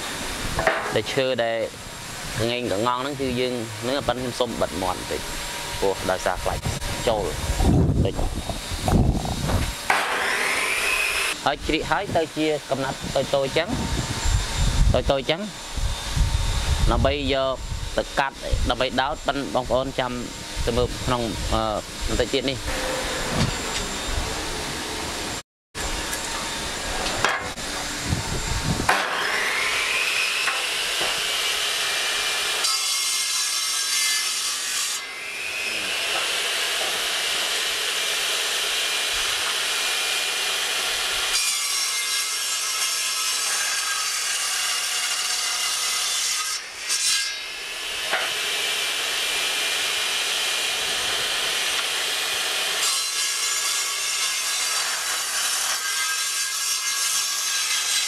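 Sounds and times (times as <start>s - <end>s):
saw cutting wood rasping hiss: 0.0s - 58.0s
table saw blade whine: 0.0s - 58.0s.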